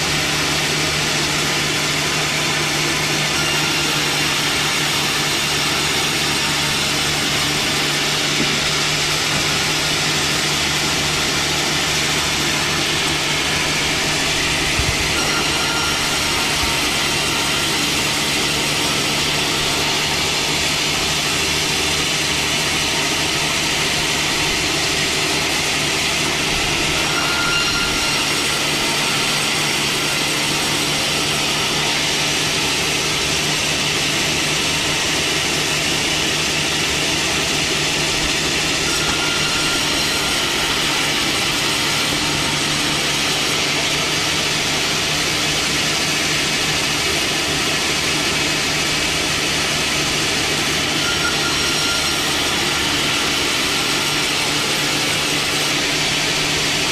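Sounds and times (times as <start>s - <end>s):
power saw running: 0.0s - 56.9s.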